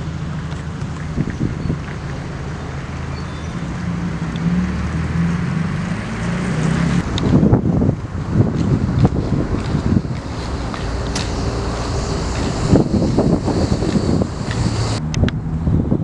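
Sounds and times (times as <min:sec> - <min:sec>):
wind buffeting the microphone: 0:00.0 - 0:03.9, 0:07.0 - 0:16.0
car engine passing: 0:00.0 - 0:15.2.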